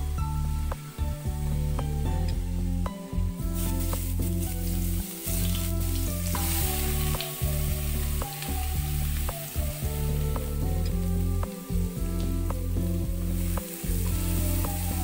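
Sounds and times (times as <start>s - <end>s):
background music with low notes: 0.0s - 15.0s
hot oil sizzling in a pan: 0.1s - 15.0s.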